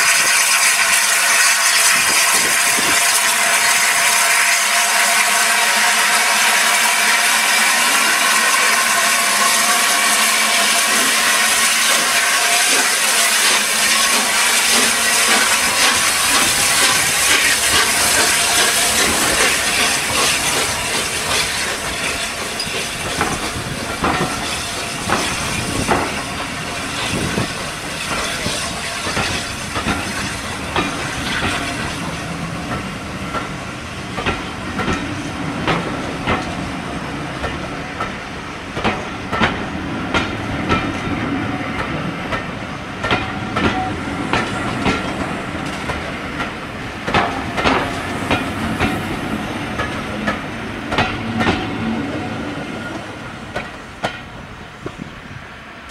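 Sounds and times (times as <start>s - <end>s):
steam hissing from locomotive: 0.0s - 55.9s
train wheels clicking over rail joints: 6.6s - 55.9s.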